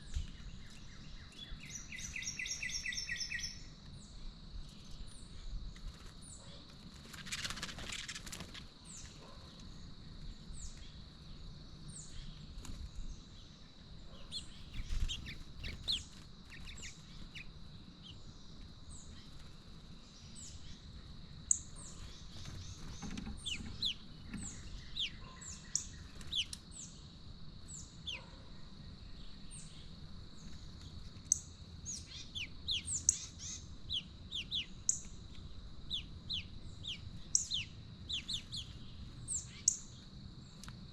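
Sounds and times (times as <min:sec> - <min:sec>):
birds chirping: 0:00.0 - 0:06.8, 0:08.4 - 0:27.0, 0:27.7 - 0:40.6.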